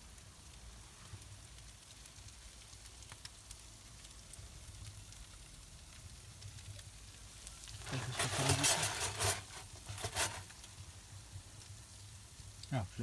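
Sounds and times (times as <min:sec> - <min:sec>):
soft hiss: 0:00.0 - 0:13.0
wood fire crackling faintly: 0:00.0 - 0:13.0.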